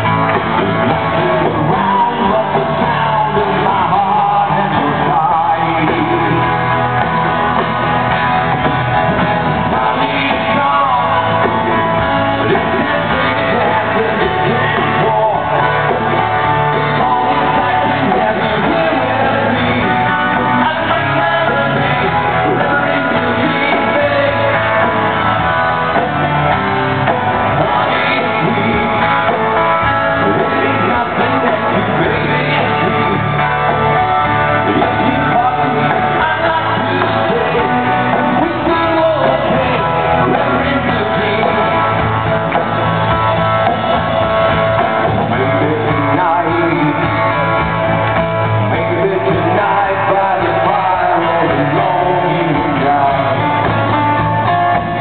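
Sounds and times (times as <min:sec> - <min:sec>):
electric guitar: 0:00.0 - 0:55.0
live rock band playing: 0:00.0 - 0:55.0
person singing: 0:00.0 - 0:55.0.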